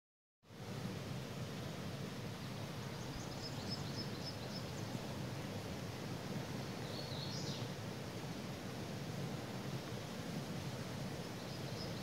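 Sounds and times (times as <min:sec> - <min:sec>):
creek running over rocks: 0:00.5 - 0:12.0.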